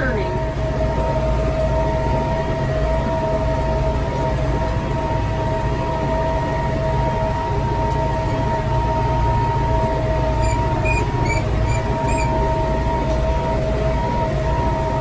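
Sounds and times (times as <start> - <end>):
high-pitched whine: 0.0 - 15.0
tractor engine droning: 0.0 - 15.0.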